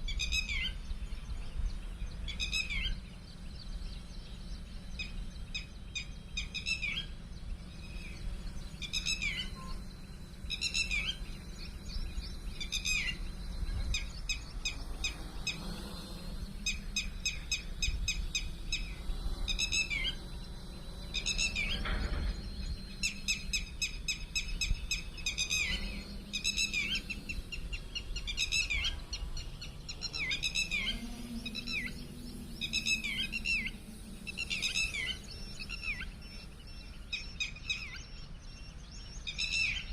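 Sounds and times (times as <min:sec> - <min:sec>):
steady low rumble: 0:00.0 - 0:39.4
birds chirping and trilling: 0:00.0 - 0:39.9.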